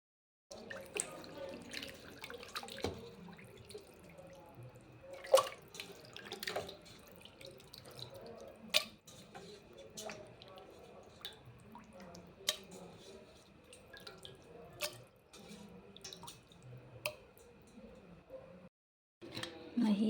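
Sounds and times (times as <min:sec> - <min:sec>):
water splashing in a sink: 0:00.5 - 0:18.1.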